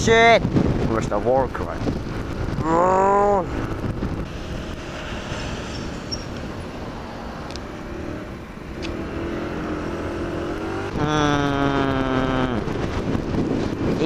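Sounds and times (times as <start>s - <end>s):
wind noise on microphone: 0.0s - 14.0s
moped engine revving: 1.6s - 14.0s.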